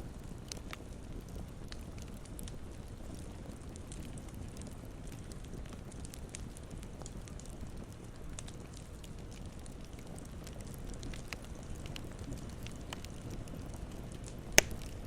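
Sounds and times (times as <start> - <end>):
campfire crackling and popping: 0.0 - 15.0
campfire low rush: 0.0 - 15.0.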